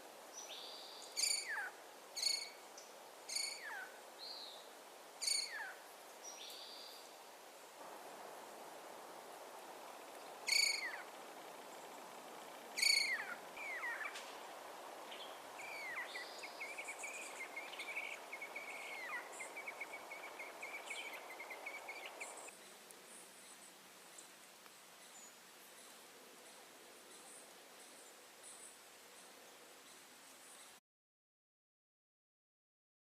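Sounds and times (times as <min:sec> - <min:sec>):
steady background hiss: 0:00.0 - 0:30.8.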